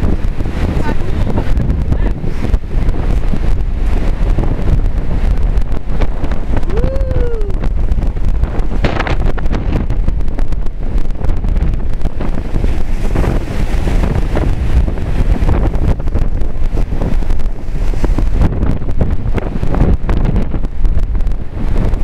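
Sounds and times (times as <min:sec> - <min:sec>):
storm surf washing: 0:00.0 - 0:22.0
wind buffeting microphone: 0:00.0 - 0:22.0.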